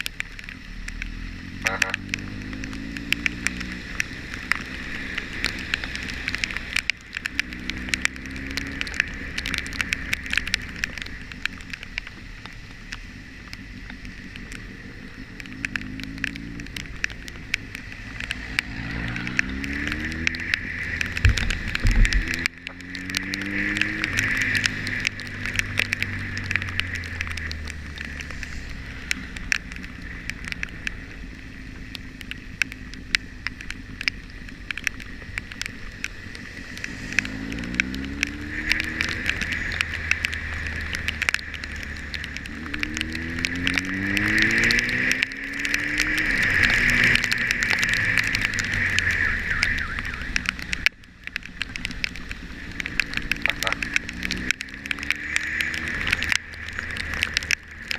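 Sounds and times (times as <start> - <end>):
motorcycle engine running: 0.0 - 57.9
sharp ticks: 0.0 - 57.9.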